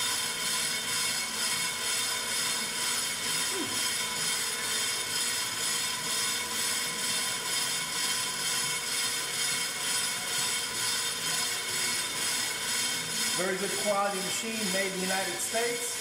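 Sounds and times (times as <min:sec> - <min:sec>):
brake lathe whirring: 0:00.0 - 0:16.0.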